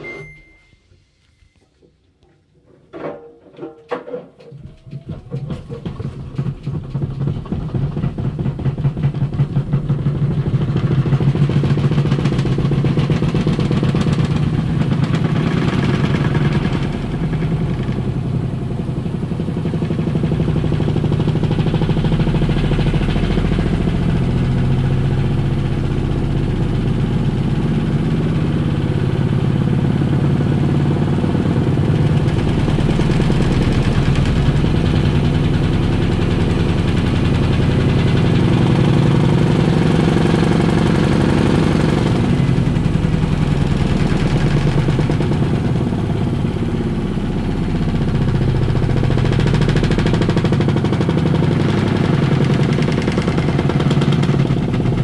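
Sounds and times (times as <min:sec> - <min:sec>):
washing machine spinning: 0:04.3 - 0:55.0.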